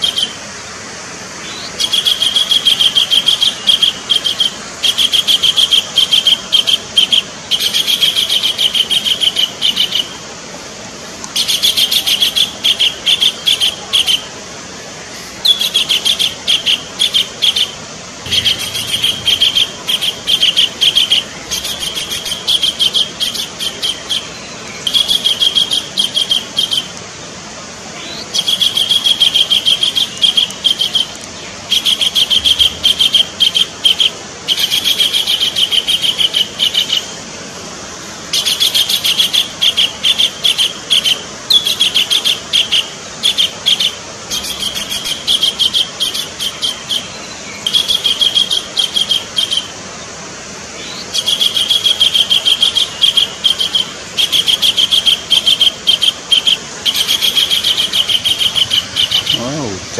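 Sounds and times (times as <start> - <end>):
kingfisher calling: 0.0 - 0.4, 1.4 - 10.2, 11.3 - 14.4, 15.2 - 27.0, 27.9 - 37.2, 38.3 - 50.0, 50.7 - 59.9.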